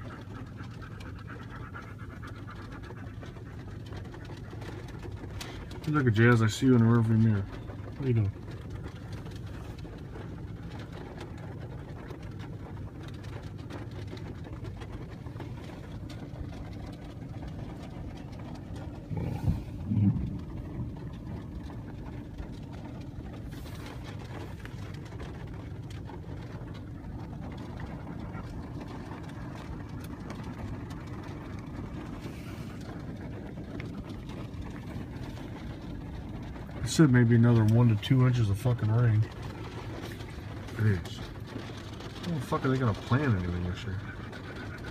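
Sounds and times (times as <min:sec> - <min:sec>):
car engine and road hum: 0:00.0 - 0:44.9.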